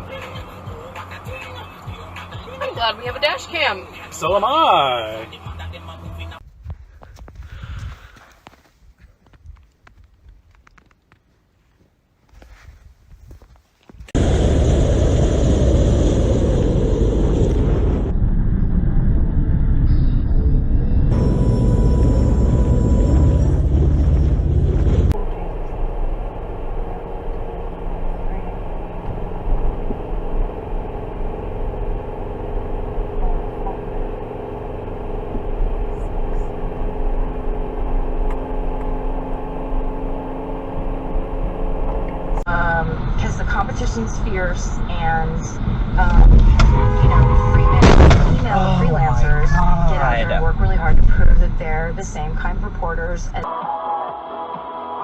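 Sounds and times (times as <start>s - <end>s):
vehicle road and wind noise: 0.0s - 53.5s.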